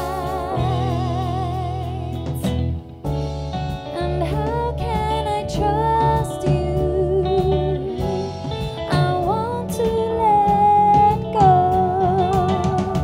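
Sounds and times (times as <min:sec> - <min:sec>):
woman singing: 0:00.0 - 0:02.6, 0:03.9 - 0:08.2, 0:08.8 - 0:13.0
bass guitar: 0:00.0 - 0:13.0
drums: 0:00.0 - 0:13.0
electric guitar: 0:00.0 - 0:13.0.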